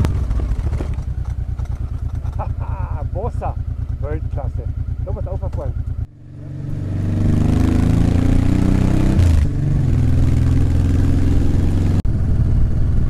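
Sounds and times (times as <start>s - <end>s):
motorcycle engine revving uphill: 0.0s - 13.0s.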